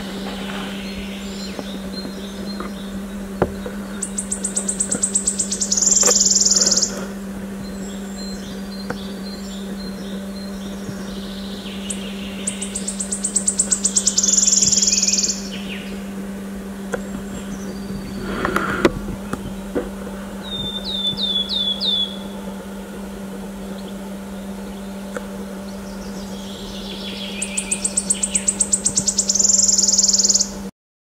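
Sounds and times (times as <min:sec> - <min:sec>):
warbler song trilling: 0:00.0 - 0:18.5, 0:20.4 - 0:30.7
steady low hum: 0:00.0 - 0:30.7.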